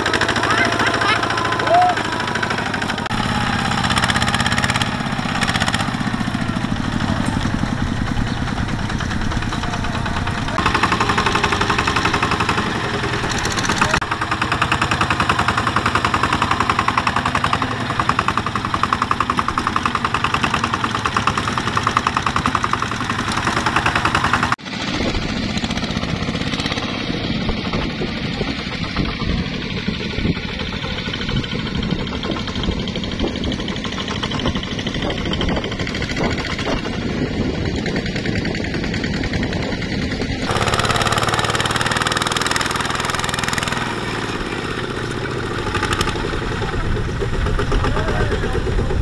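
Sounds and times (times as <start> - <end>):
diesel tractor engine chugging: 0.0 - 49.0.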